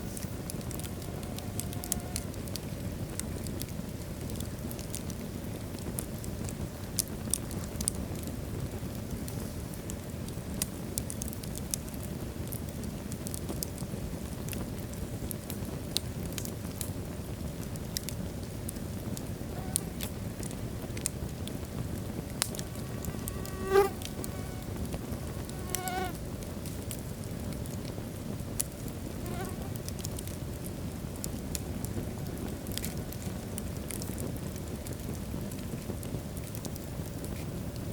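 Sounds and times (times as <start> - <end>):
fire crackles: 0.0 - 37.9
low rush of flame: 0.0 - 37.9.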